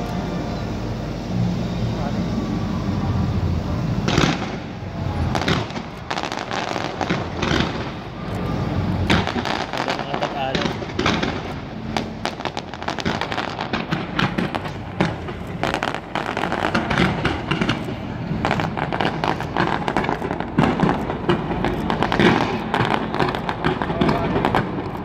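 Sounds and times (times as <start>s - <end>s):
fireworks popping and crackling: 4.0s - 25.0s
loud firework bangs: 4.0s - 25.0s.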